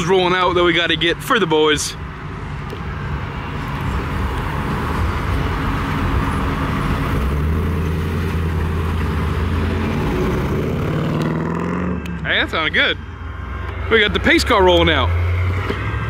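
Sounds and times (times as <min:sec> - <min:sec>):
car engine driving away: 0:02.6 - 0:16.0.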